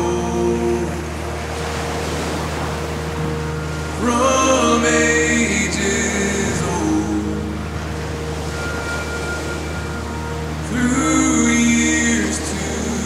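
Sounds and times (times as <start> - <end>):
soft wash of noise: 0.0 - 13.0
sung song music: 0.0 - 13.0.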